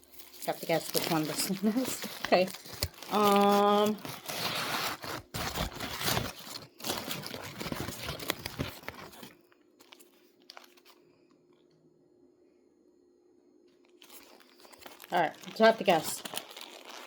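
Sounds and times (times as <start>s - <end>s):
sandwich wrapper crinkling and tearing: 0.0s - 11.2s, 13.8s - 17.0s.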